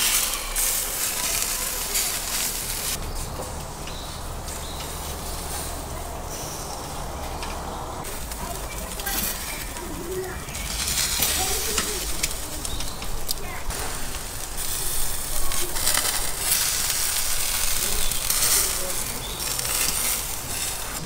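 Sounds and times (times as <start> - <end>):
meat sizzling on grill: 0.0 - 7.4, 8.0 - 21.0.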